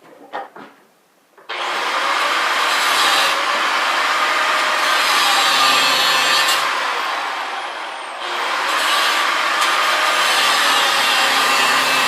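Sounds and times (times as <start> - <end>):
angle grinder cutting steel: 1.5 - 12.0.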